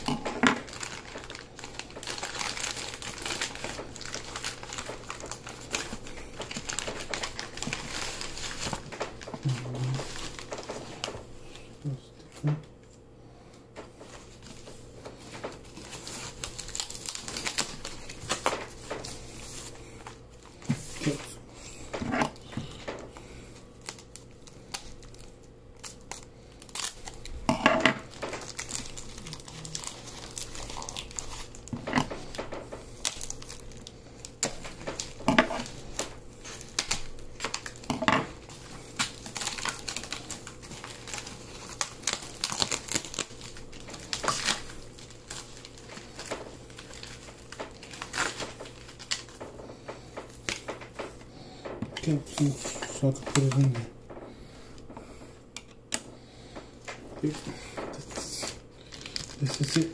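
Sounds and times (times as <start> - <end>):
loud packaging rustles: 0.0 - 12.5, 13.8 - 55.3, 56.8 - 59.9
packaging crinkling: 0.0 - 13.0, 13.8 - 59.9.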